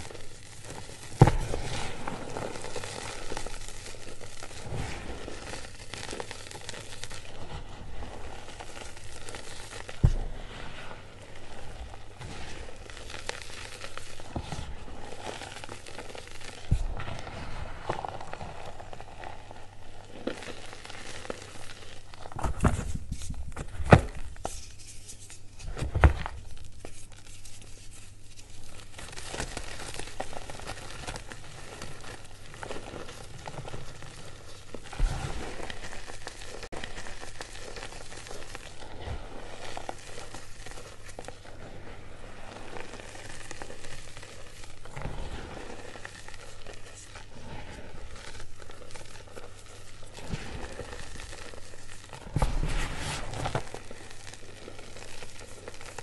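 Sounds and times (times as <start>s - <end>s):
chalk crunching and crumbling: 0.0s - 56.0s.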